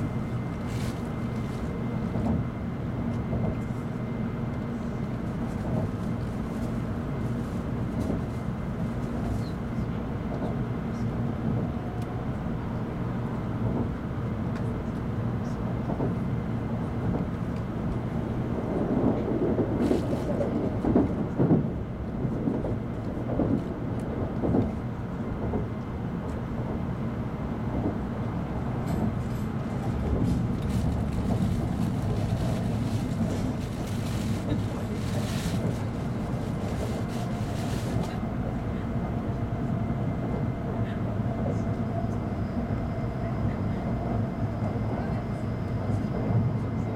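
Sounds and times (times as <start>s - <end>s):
train rumble inside passenger car: 0.0s - 46.9s.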